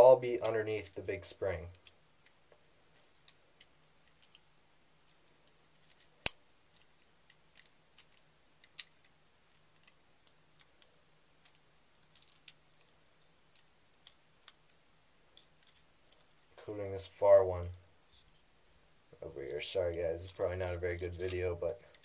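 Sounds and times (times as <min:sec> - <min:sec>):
small metal parts clicking: 0:00.4 - 0:01.0, 0:02.9 - 0:14.8, 0:15.4 - 0:16.7, 0:17.5 - 0:22.0.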